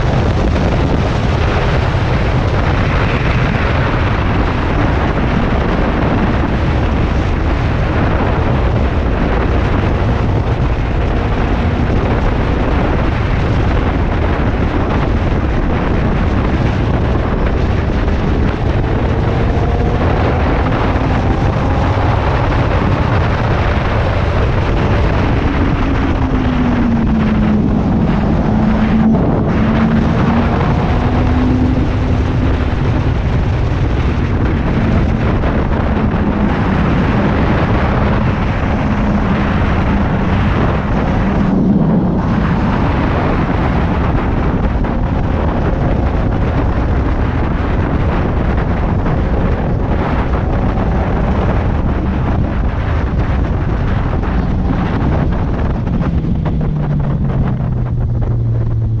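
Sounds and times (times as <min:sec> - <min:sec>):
motorcycle engine drone: 0:00.0 - 0:59.0
wind noise on microphone: 0:00.0 - 0:59.0.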